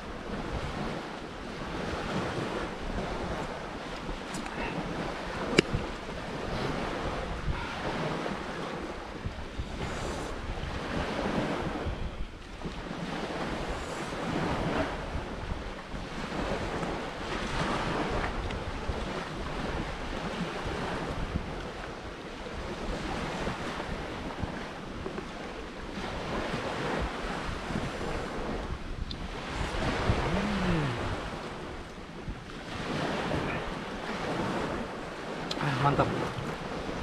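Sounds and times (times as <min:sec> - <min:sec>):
sea waves breaking: 0:00.0 - 0:37.0
wind buffeting microphone: 0:00.0 - 0:37.0.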